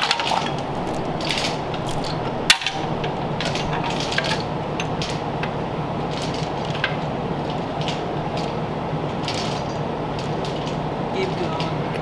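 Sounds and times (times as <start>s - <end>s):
steady shop hum: 0.0s - 12.0s.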